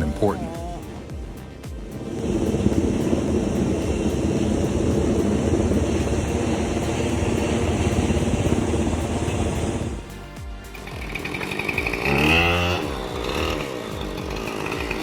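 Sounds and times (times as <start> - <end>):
loud engine running: 0.0 - 10.2, 10.8 - 15.0.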